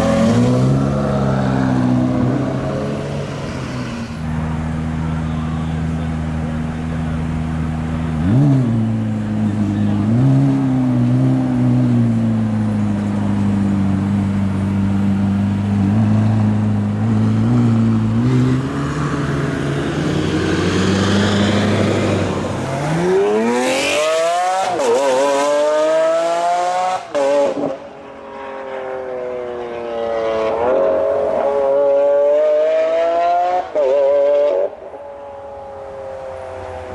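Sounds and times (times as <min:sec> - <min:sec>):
car engine accelerating: 0:00.0 - 0:36.9.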